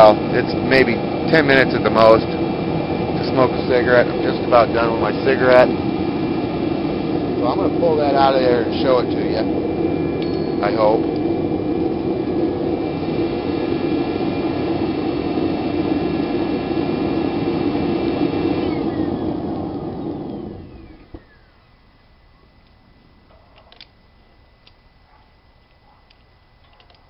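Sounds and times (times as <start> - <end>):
gas forge burner rushing: 0.0 - 21.8.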